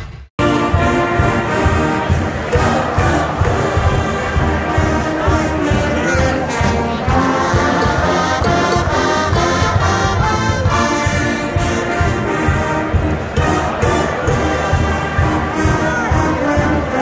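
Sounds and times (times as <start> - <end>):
brass-led music with steady beat: 0.0 - 17.0.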